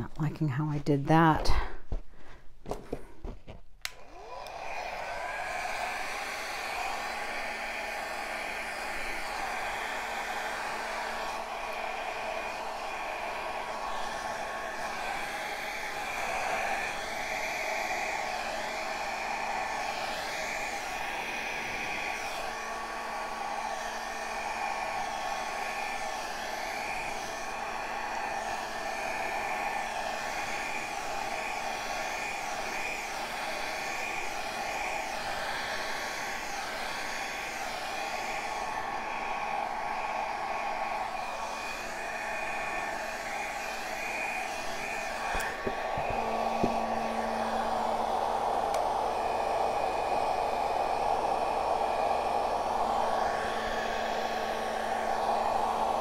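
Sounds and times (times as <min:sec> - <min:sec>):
hair dryer running: 0:03.8 - 0:56.0.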